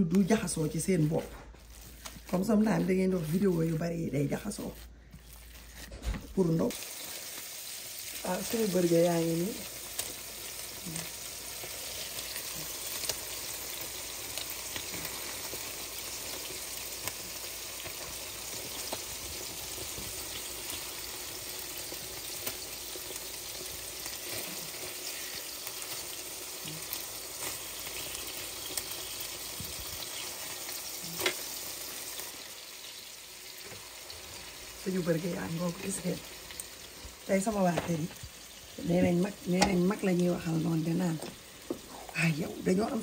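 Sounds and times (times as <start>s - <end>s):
burger patties sizzling: 0.0s - 43.0s.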